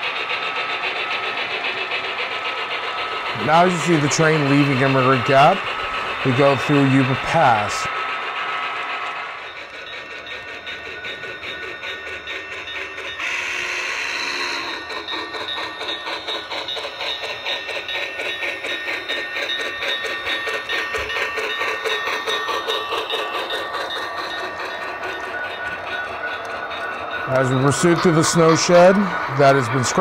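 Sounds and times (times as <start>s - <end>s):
model train wheels clicking: 0.0s - 30.0s.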